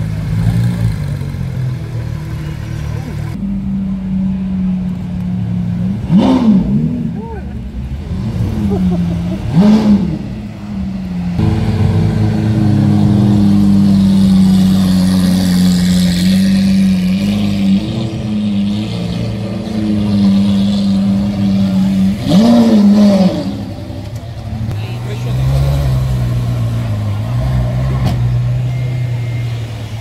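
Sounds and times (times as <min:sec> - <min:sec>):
loud car engine: 0:00.0 - 0:30.0
engine revving: 0:05.8 - 0:30.0.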